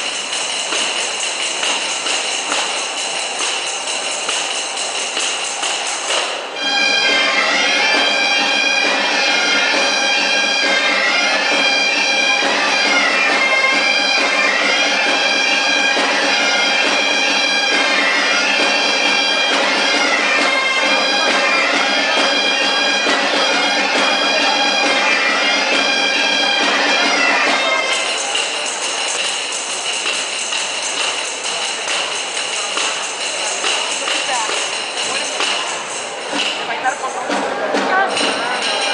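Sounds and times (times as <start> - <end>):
bagpipes playing folk dance tune: 0.0 - 38.9.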